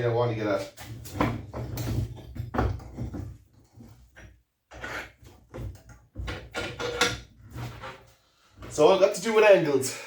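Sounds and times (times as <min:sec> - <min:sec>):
metal knocks and scrapes: 0:00.8 - 0:08.9.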